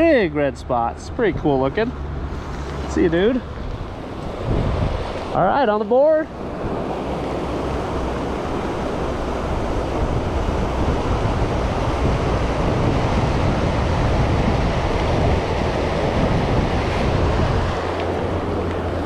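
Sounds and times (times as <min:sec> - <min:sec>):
wind buffeting microphone: 0:01.1 - 0:19.0
river water running over rocks: 0:02.2 - 0:19.0.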